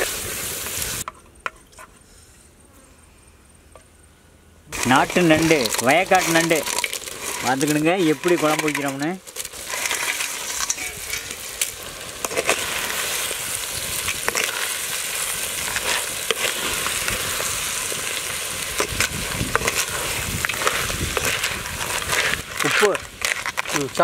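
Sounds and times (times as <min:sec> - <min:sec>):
crab sizzling in hot oil: 0:00.0 - 0:01.1, 0:04.7 - 0:24.0
ladle clicking and scraping: 0:04.7 - 0:24.0.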